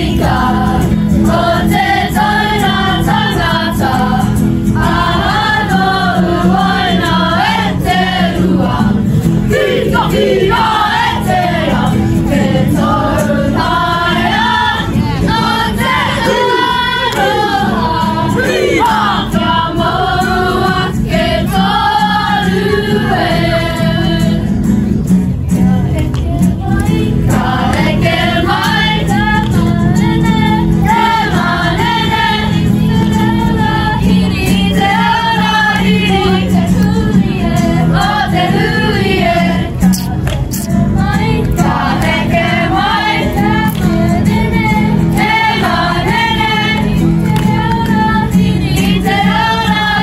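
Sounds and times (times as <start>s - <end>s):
girls singing in chorus: 0.0s - 24.5s, 26.5s - 39.9s, 40.7s - 50.0s.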